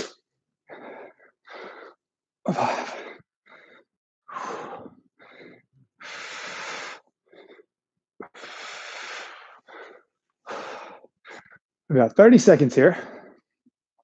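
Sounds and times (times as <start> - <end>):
man breathing hard: 0.0 - 11.6.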